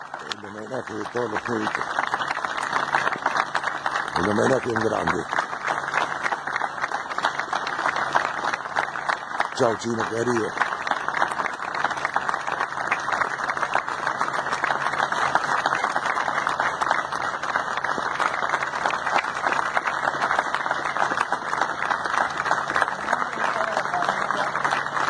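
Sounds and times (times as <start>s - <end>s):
crowd applauding: 0.0s - 25.0s.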